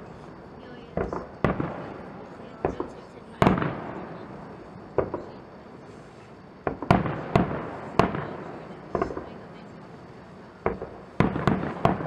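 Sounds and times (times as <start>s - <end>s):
firework shells bursting: 0.9s - 12.0s.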